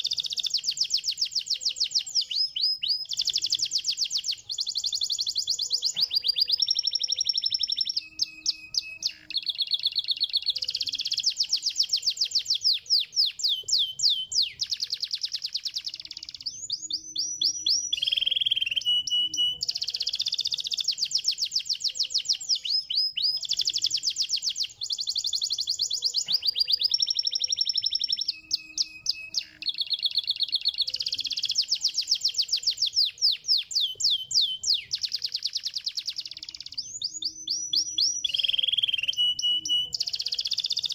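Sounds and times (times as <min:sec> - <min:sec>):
canary singing rapid trills: 0:00.0 - 0:40.9.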